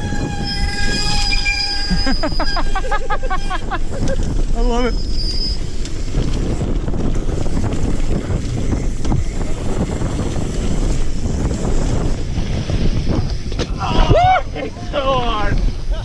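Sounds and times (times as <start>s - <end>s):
bike tyres rolling on dirt: 0.0s - 16.0s
wind buffeting microphone: 0.0s - 16.0s.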